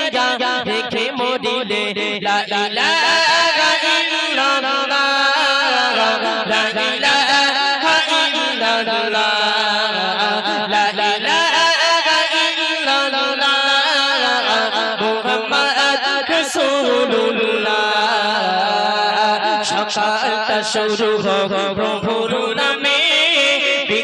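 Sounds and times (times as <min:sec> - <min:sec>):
men singing through microphones: 0:00.0 - 0:24.0.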